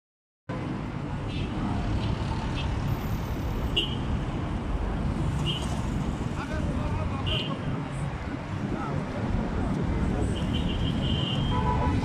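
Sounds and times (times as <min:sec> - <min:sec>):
low rumble of street traffic: 0:00.5 - 0:12.0.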